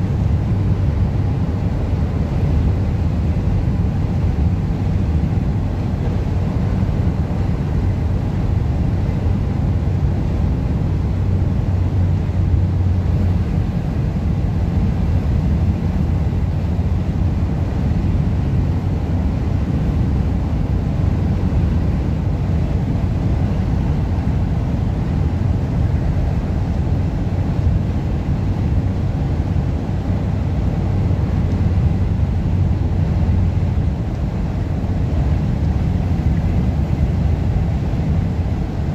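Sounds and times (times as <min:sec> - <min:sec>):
car driving on highway: 0:00.0 - 0:38.9
road and wind noise: 0:00.0 - 0:38.9.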